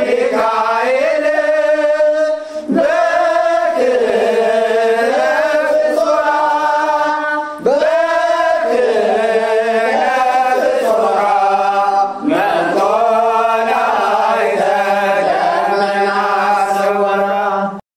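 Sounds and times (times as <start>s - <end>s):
hymn sung in chant style: 0.0s - 17.8s.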